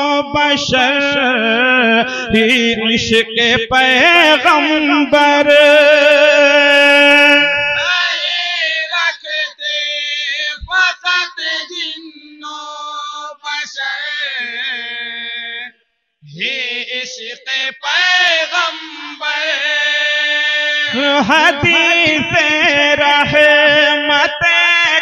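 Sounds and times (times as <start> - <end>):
men chanting devotional poem: 0.0 - 25.0.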